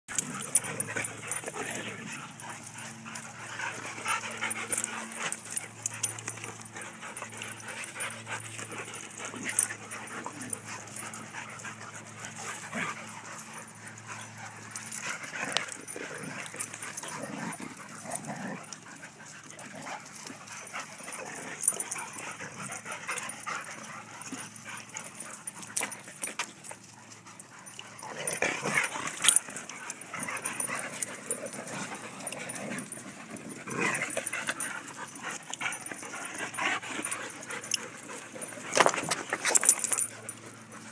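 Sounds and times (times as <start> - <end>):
dogs whimpering and yipping: 0.1 - 40.9.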